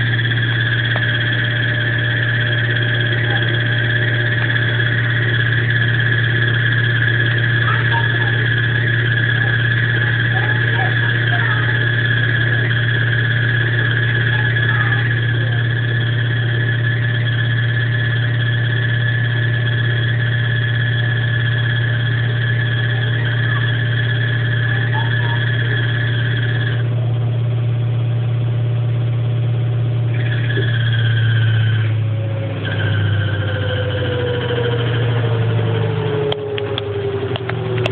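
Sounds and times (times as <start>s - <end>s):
high-pitched squeal: 0.0s - 27.0s, 30.1s - 37.9s
washing machine spinning hum: 0.0s - 37.9s.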